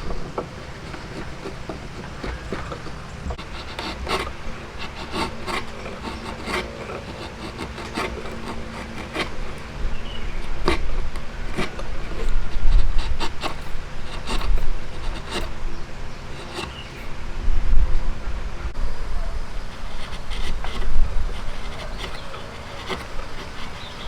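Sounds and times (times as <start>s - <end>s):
hand tool rubbing wood: 0.0s - 17.2s, 19.2s - 24.0s.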